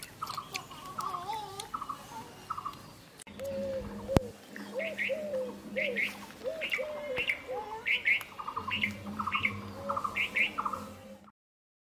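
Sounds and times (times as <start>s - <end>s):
birds chirping: 0.0s - 11.3s.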